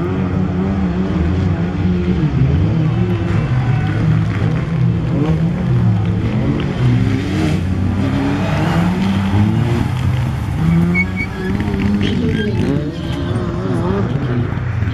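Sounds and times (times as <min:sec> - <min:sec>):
rally car engine revving: 0:00.0 - 0:14.9.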